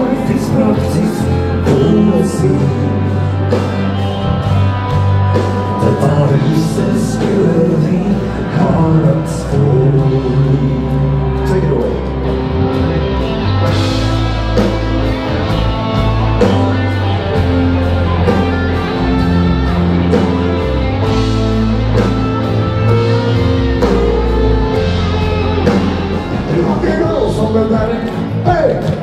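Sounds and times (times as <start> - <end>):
electric guitar: 0.0 - 29.0
rock band playing: 0.0 - 29.0.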